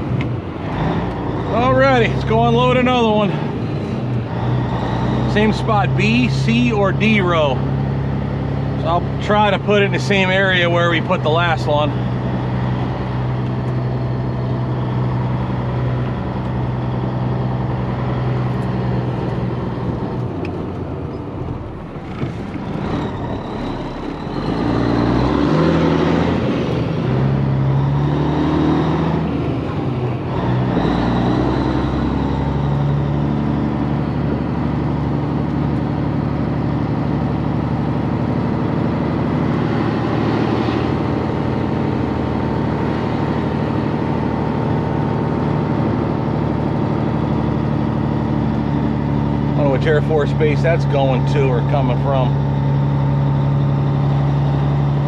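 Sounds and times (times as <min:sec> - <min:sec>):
truck diesel engine shifting gears: 0:00.0 - 0:55.0.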